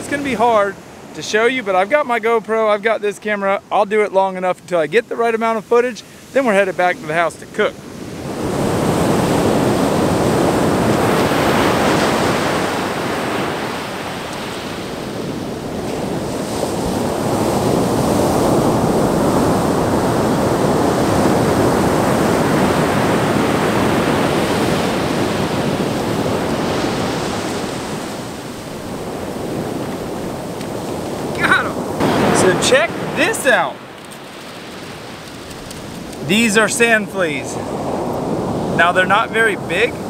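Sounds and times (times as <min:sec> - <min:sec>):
ocean surf breaking: 0:00.0 - 0:40.0.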